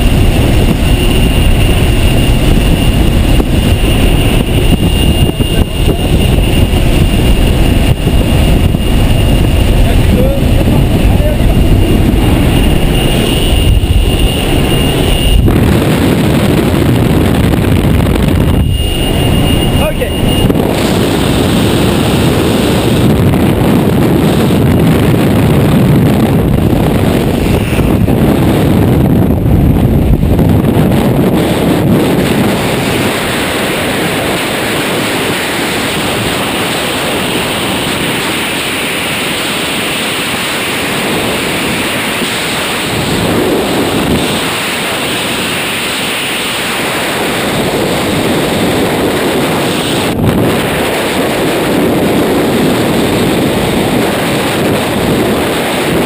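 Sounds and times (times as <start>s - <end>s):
freefall wind buffeting microphone: 0.0s - 56.0s.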